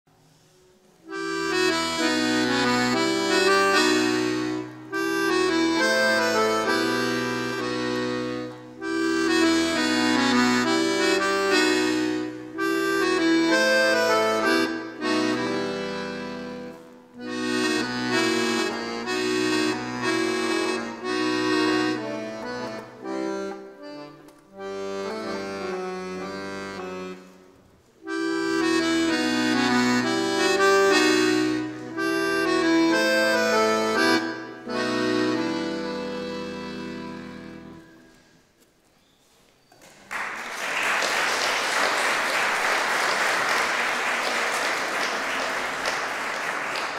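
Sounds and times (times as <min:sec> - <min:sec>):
piano accordion solo: 0:00.2 - 0:38.6.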